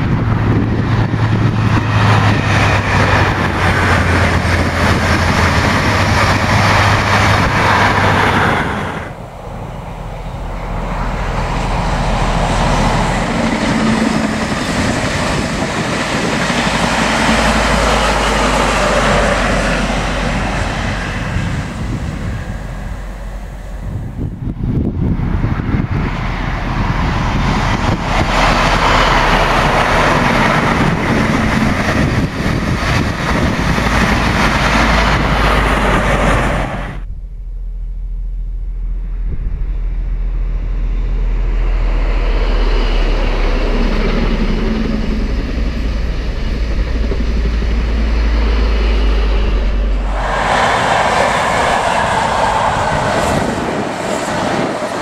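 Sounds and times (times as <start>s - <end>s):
diesel train passing: 0.0s - 55.0s
wind rumble on microphone: 0.0s - 55.0s.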